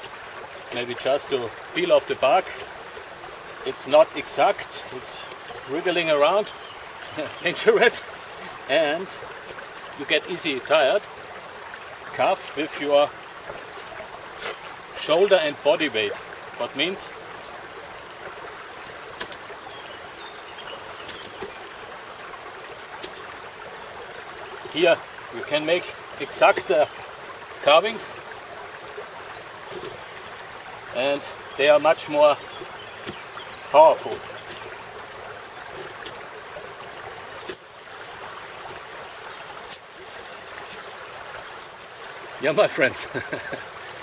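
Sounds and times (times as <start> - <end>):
mountain stream rushing: 0.0 - 44.0.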